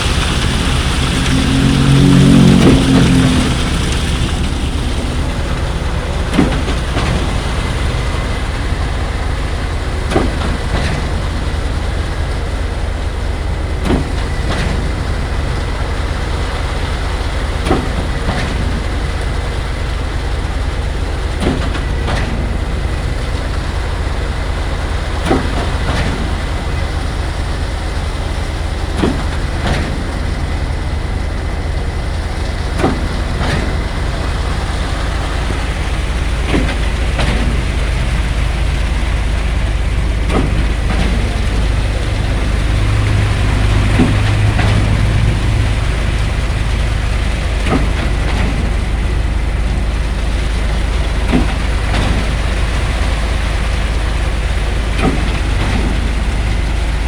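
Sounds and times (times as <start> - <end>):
pump engine rumbling: 0.0 - 57.0
pump piston clunks and knocks: 0.0 - 57.0.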